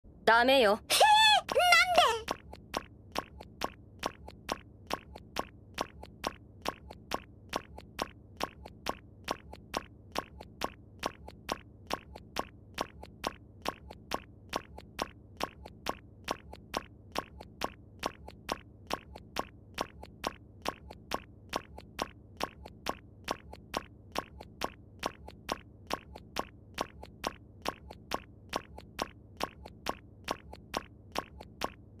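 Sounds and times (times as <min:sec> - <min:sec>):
rhythmic click sound effect: 0:02.0 - 0:31.8.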